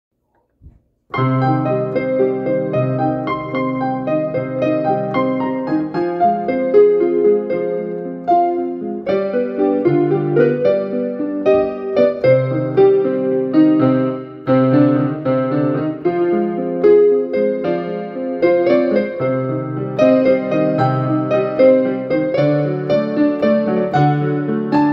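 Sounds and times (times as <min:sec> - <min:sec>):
digital piano piece: 0:00.6 - 0:24.9.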